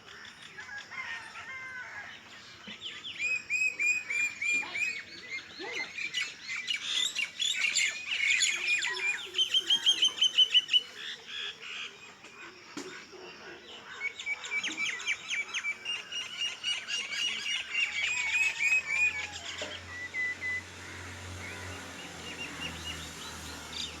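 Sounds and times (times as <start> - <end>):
birds chirping and trilling: 0.0 - 24.0.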